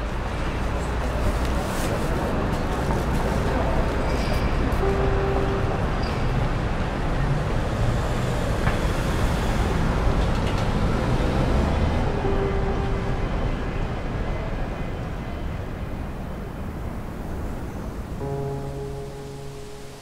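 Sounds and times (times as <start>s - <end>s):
traffic rumble and hiss: 0.0s - 20.0s.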